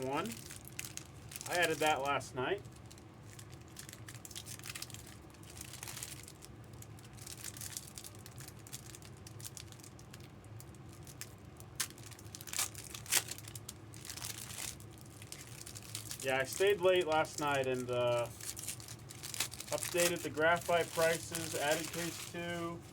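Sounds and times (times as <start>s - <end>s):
plastic wrapping crinkling and tearing: 0.0s - 22.9s.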